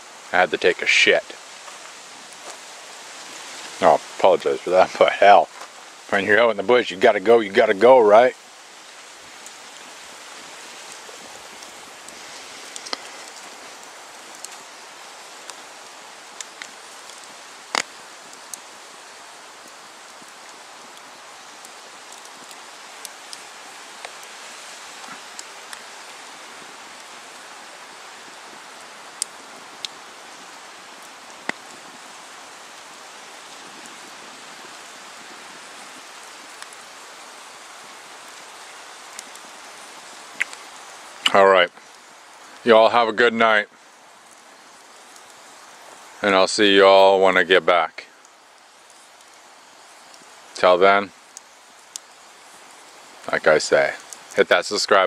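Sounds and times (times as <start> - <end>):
wind rustling trees: 0.0 - 55.0
campfire popping and snapping: 0.1 - 55.0.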